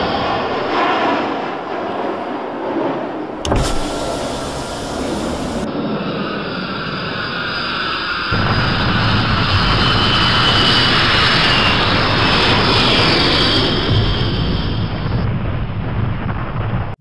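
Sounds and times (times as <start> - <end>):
jet engine rushing with whine: 0.0 - 15.2
deep jet engine rumble: 0.0 - 17.0.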